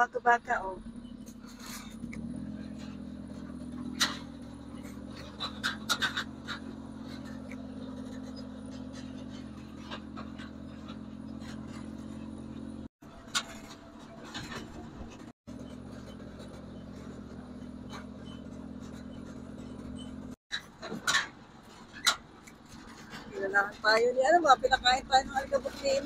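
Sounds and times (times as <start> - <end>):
buggy engine running: 0.0 - 26.0
sharp knocks and rattles: 0.9 - 26.0.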